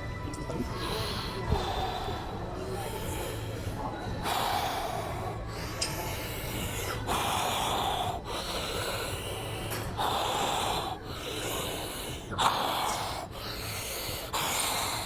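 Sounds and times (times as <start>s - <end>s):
man breathing hard: 0.8s - 15.0s.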